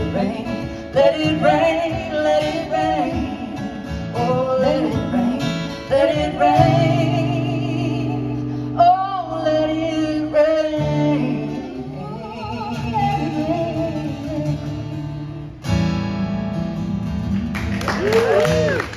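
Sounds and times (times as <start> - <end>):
person singing: 0.0 - 15.2
guitar accompaniment: 0.0 - 18.9.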